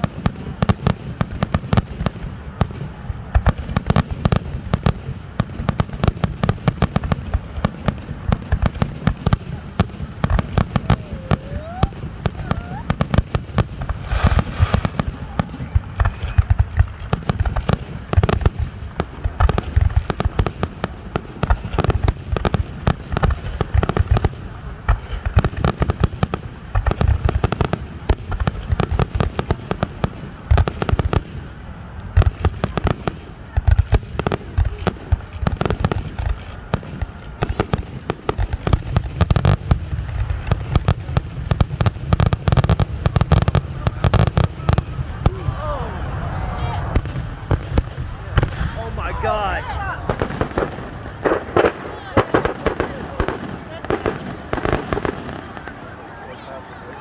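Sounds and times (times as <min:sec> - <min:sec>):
fireworks booming and crackling: 0:00.0 - 0:57.0.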